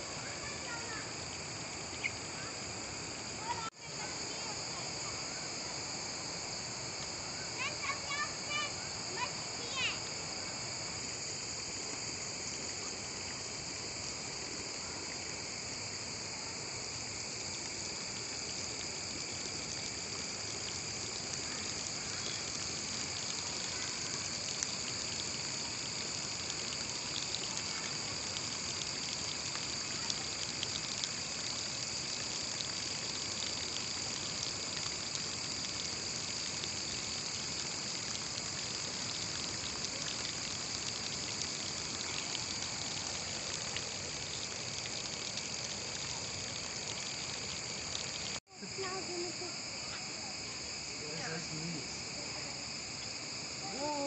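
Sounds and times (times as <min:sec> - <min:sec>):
high-pitched insect drone: 0:00.0 - 0:54.0
water trickling into pond: 0:00.0 - 0:54.0.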